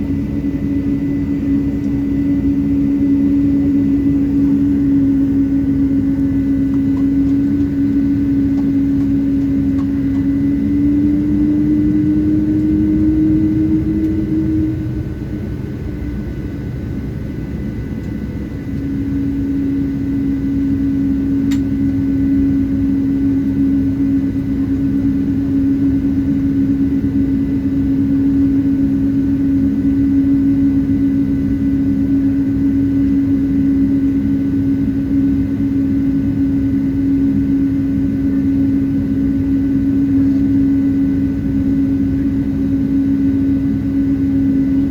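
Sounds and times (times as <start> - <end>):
aircraft cabin rumble: 0.0 - 44.9
droning hum: 0.0 - 44.9.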